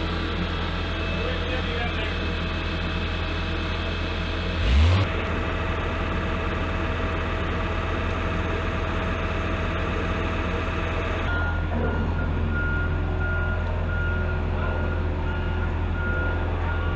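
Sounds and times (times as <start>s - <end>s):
machinery engine humming: 0.0s - 16.9s.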